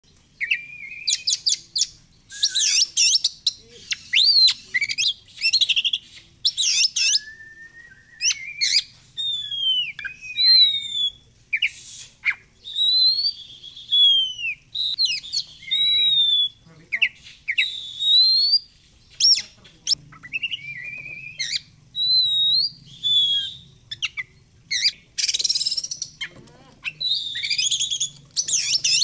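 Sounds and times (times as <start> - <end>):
bird singing whistles and trills: 0.4 - 29.0.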